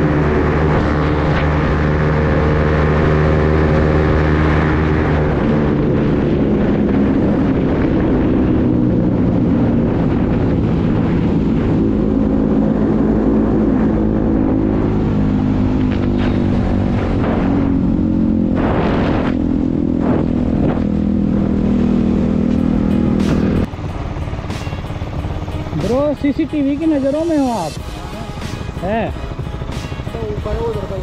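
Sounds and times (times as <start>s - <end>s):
motorcycle engine: 0.0s - 31.0s
road noise: 0.0s - 31.0s
rushing wind: 0.0s - 31.0s.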